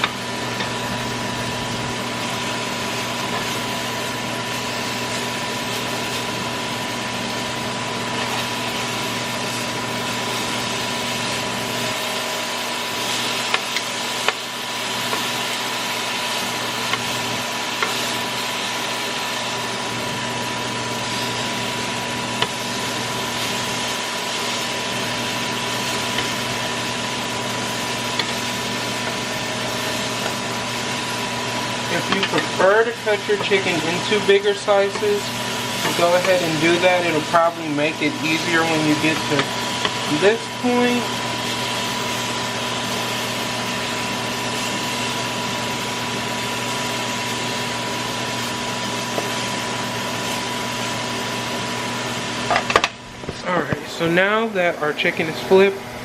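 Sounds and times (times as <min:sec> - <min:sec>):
chicken sizzling in a pan: 0:00.0 - 0:54.6
exhaust fan humming: 0:00.0 - 0:56.0.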